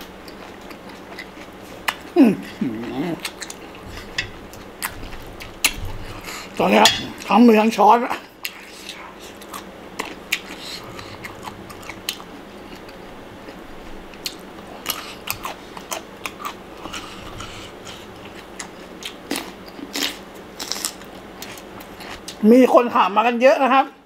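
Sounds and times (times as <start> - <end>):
chewing crisp food: 0.1 - 6.6, 8.2 - 22.4.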